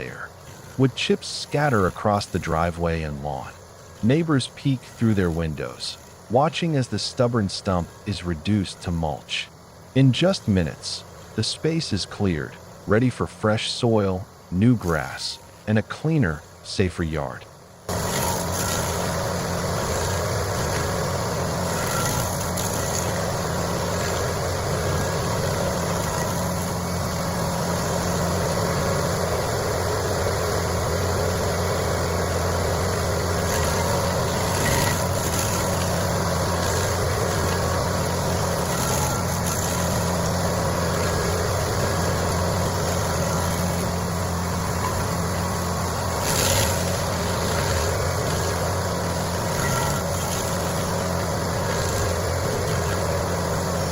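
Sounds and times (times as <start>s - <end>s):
stump grinder grinding: 0.0s - 53.9s.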